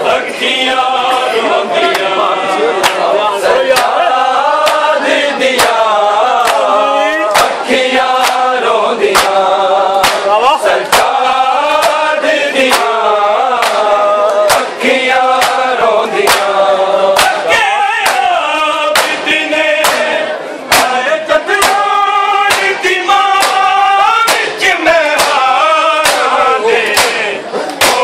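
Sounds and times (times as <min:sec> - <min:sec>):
men chanting together: 0:00.0 - 0:28.0
sharp rhythmic beats: 0:00.0 - 0:28.0.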